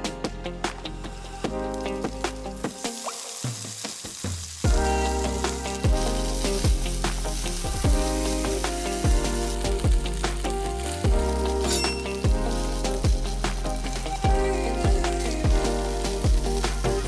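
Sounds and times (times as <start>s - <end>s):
background music with a beat: 0.0s - 17.0s
meat sizzling in hot oil: 1.0s - 17.0s.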